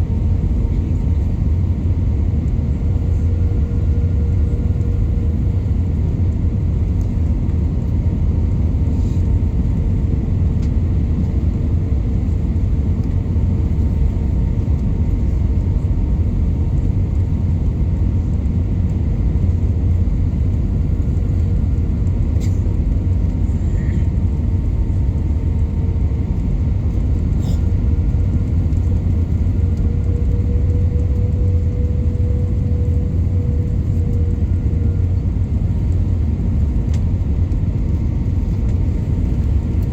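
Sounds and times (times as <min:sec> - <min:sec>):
jet engine rumble: 0:00.0 - 0:39.9
steady engine hum: 0:00.0 - 0:39.9.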